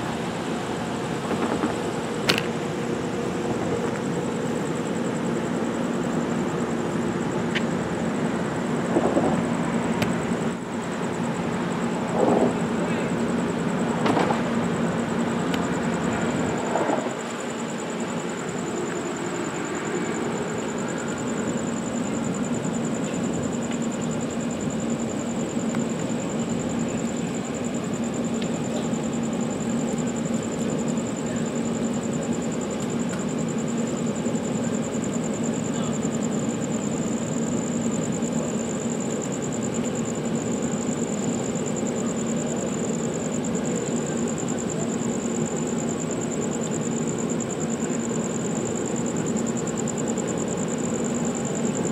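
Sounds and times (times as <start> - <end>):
diesel locomotive engine idling: 0.0 - 51.9.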